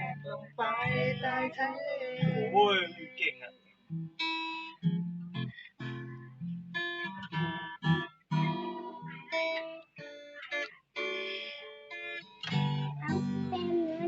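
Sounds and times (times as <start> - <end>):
pop ballad with plucked guitar: 0.0 - 3.3, 3.9 - 14.0.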